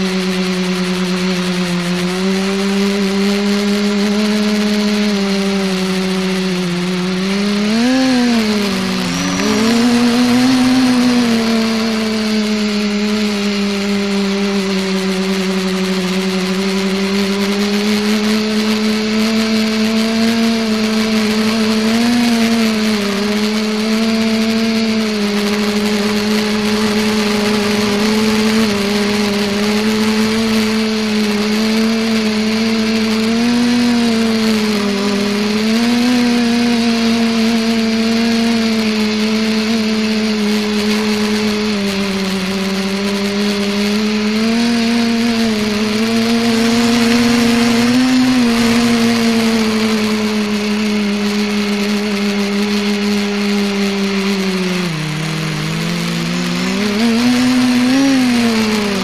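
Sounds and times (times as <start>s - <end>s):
drone motors humming: 0.0s - 59.0s.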